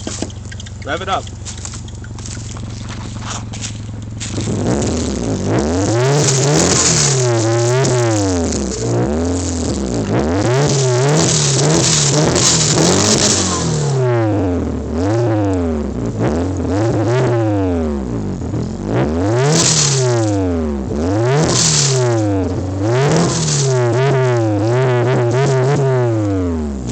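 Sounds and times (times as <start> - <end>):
car engine revving: 0.0 - 26.9.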